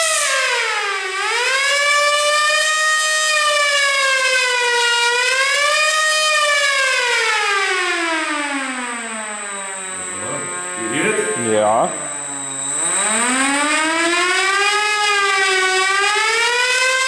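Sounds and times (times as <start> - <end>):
air-raid siren wailing: 0.0 - 17.0.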